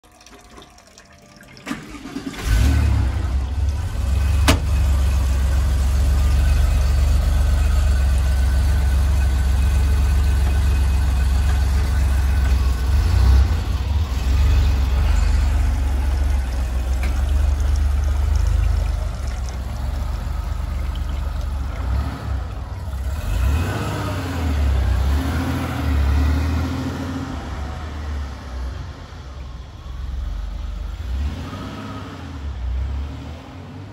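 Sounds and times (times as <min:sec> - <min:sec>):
car engine cranking and starting: 0:01.6 - 0:32.8
car pulling away: 0:01.6 - 0:33.9
car engine idling: 0:01.7 - 0:31.1.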